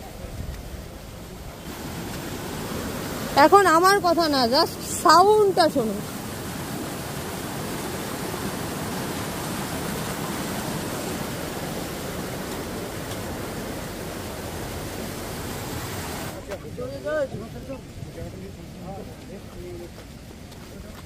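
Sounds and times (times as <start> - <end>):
waterfall rushing over boulders: 0.0 - 21.0.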